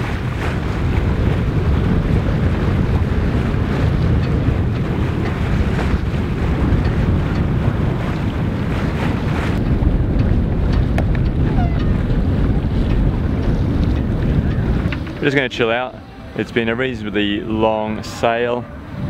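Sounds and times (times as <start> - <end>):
sea water washing along hull: 0.0 - 19.0
wind buffeting microphone: 0.0 - 19.0.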